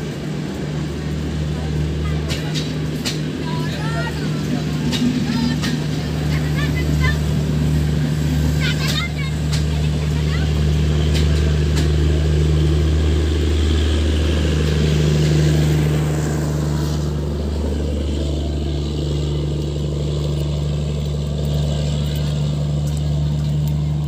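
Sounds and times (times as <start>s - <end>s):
train generator diesel hum: 0.0s - 24.0s.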